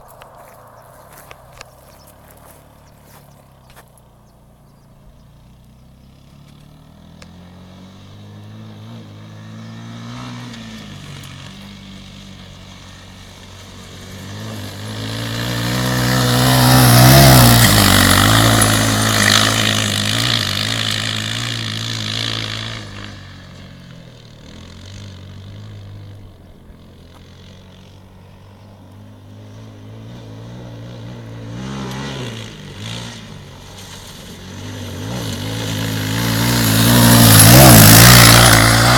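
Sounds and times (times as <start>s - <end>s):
dirt bike engine revving: 0.4s - 38.9s.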